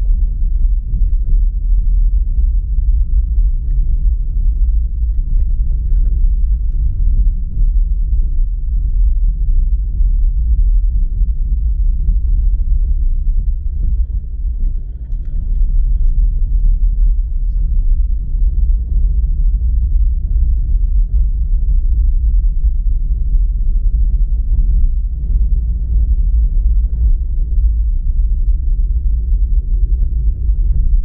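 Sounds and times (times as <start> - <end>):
car road and engine rumble: 0.0 - 31.0.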